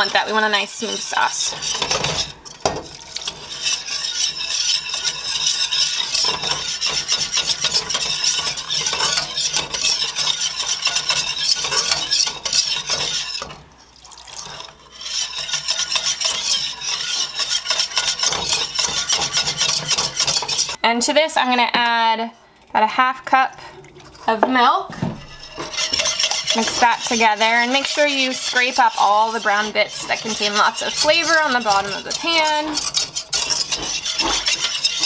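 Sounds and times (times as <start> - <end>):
wire whisk scraping a steel skillet: 0.0 - 13.7, 14.3 - 20.8, 25.2 - 35.0.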